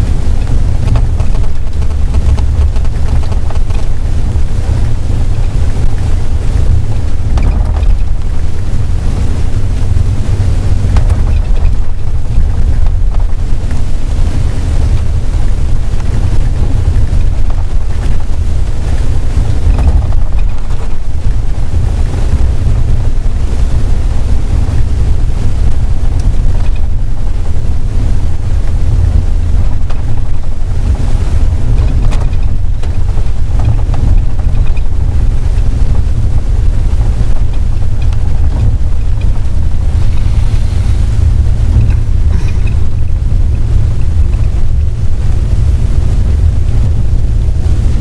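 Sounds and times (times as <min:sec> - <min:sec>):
vehicle engine and road noise: 0:00.0 - 0:48.0
wind buffeting microphone: 0:00.0 - 0:48.0.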